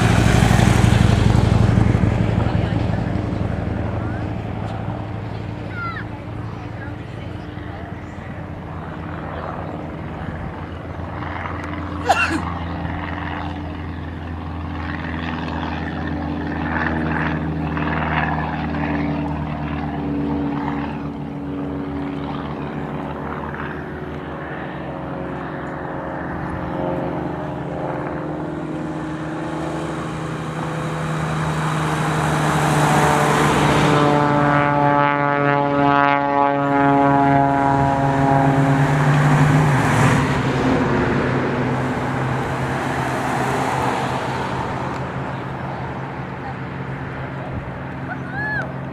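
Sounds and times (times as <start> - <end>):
propeller airplane engines: 0.0 - 48.9.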